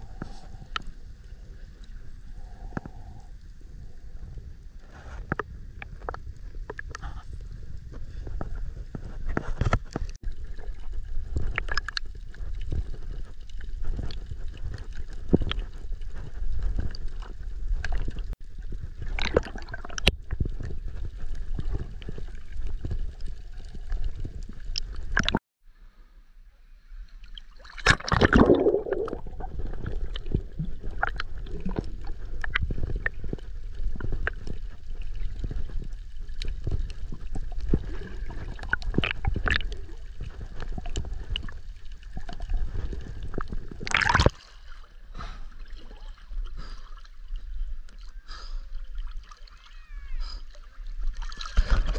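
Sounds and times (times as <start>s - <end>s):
underwater gurgling rumble: 0.0s - 25.4s, 26.7s - 51.9s.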